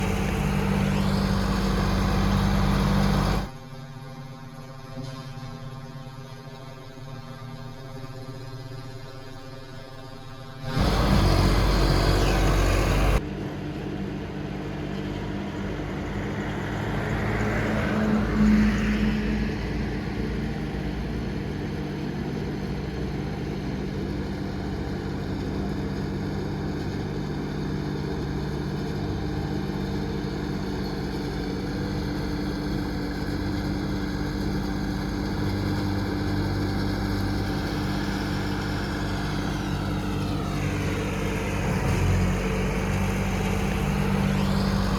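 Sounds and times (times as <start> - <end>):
combine harvester diesel engine: 0.0 - 44.9.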